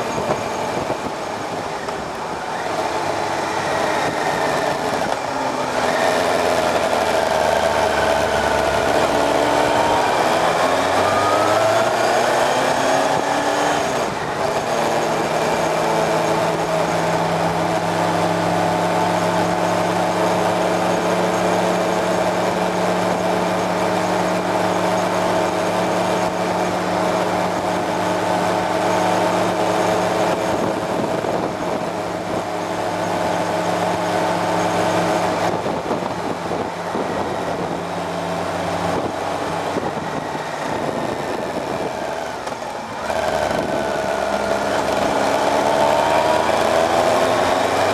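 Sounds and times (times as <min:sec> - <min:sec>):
wind rush: 0:00.0 - 0:20.6, 0:22.2 - 0:47.9
motorcycle engine running: 0:00.0 - 0:47.9.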